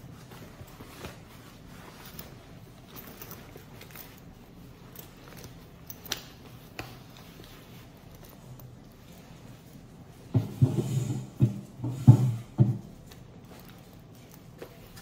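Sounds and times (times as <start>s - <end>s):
leather vest rustling: 0.0s - 10.3s, 12.8s - 15.0s.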